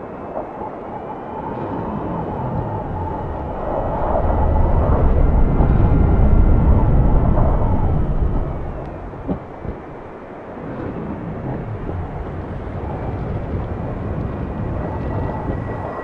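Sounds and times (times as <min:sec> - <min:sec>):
deep noisy rumble: 0:01.5 - 0:16.0.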